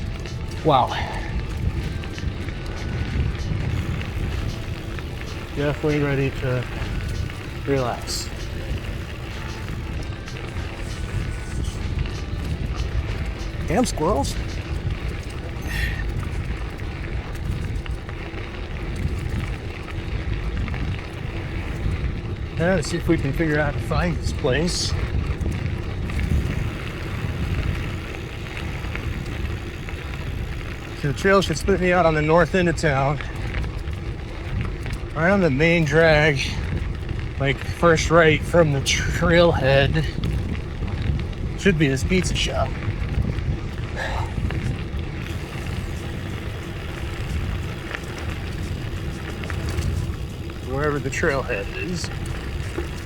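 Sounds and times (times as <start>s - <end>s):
bicycle road noise: 0.0s - 53.0s
wind buffeting microphone: 0.0s - 53.0s.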